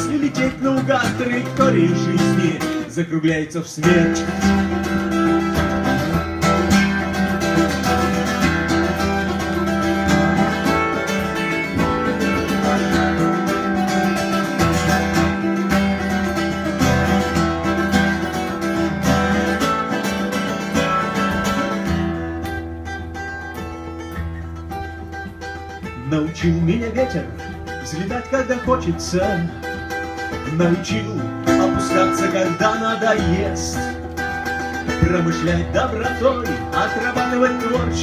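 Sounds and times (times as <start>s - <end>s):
acoustic guitar playing: 0.0s - 38.0s.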